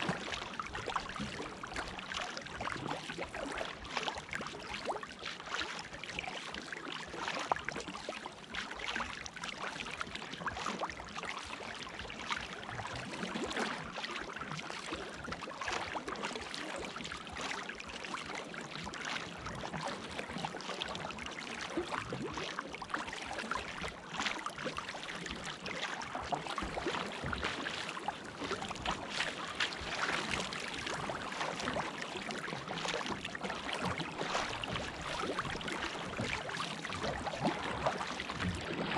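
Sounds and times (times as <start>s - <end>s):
paddle splashes: 0.0s - 38.9s
water rushing along kayak hull: 0.0s - 38.9s.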